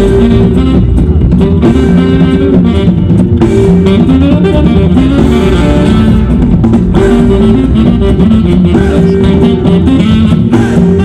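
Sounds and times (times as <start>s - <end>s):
loud guitar and drums music: 0.0s - 11.0s.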